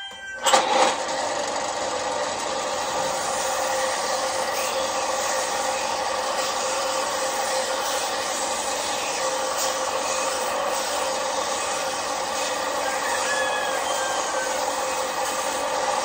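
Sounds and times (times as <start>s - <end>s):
electric bench sander running: 0.4s - 16.0s
wood sanding against sander: 0.6s - 16.0s.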